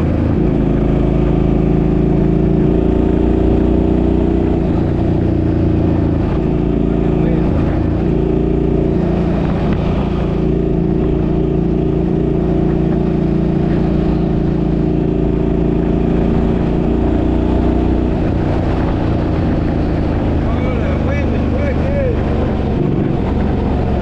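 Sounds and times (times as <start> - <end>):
car engine: 0.0 - 24.0
road noise: 0.0 - 24.0.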